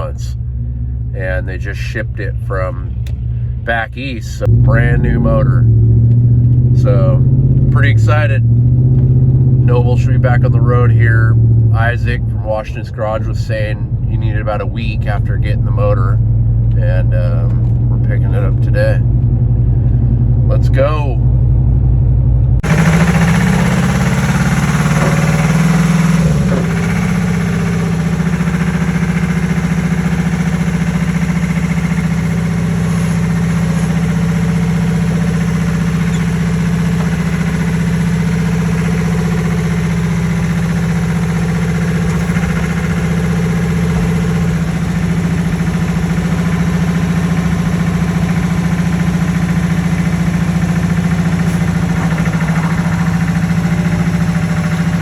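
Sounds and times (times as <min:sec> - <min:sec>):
vehicle engine running steadily: 0:00.0 - 0:55.0.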